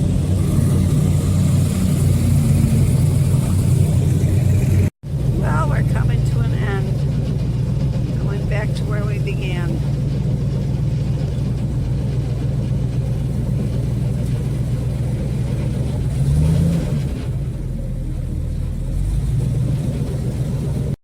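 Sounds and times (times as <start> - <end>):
boat motor running: 0.0 - 21.0.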